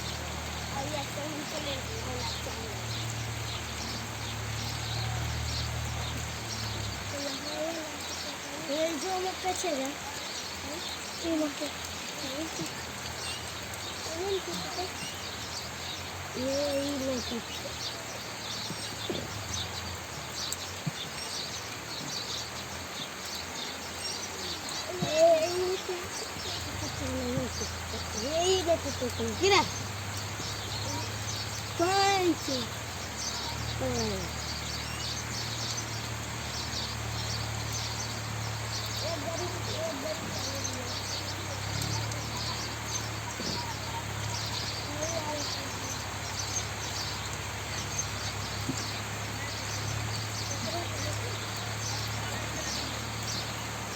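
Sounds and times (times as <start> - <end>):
small birds chirping: 0.0 - 53.9
steady outdoor background hiss: 0.0 - 53.9.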